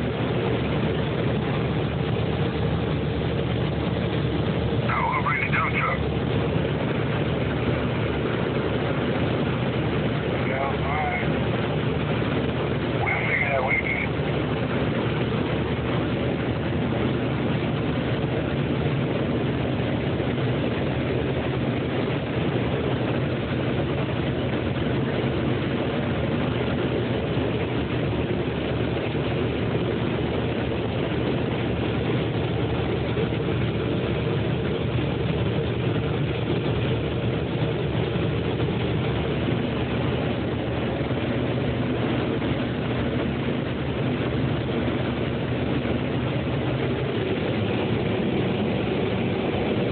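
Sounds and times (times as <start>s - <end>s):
combine harvester running: 0.0s - 49.9s.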